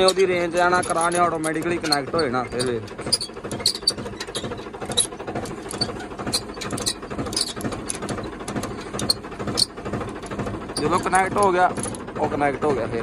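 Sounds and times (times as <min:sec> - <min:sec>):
small clicks and rattles: 0:00.0 - 0:12.9
tractor engine humming: 0:00.0 - 0:13.0.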